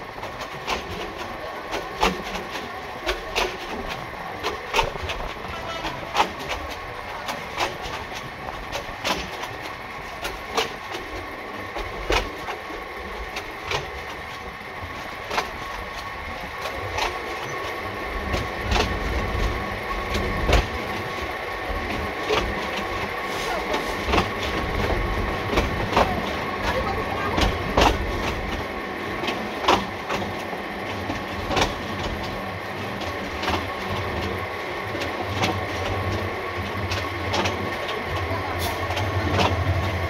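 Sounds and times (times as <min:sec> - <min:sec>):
train wheels clacking over rail joints: 0:00.0 - 0:40.0.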